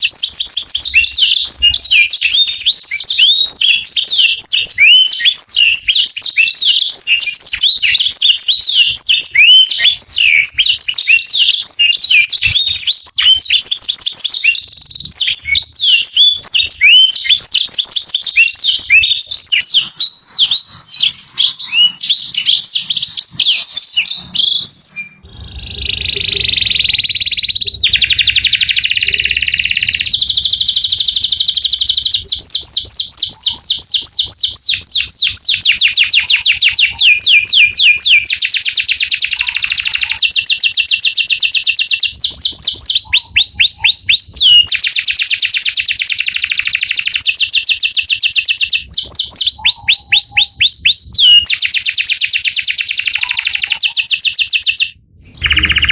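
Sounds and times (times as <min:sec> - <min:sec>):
canary singing fast trills: 0:00.0 - 0:55.9.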